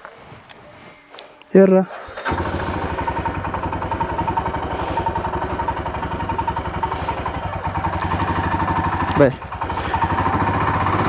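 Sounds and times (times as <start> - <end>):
motorcycle engine idling: 1.9 - 11.0.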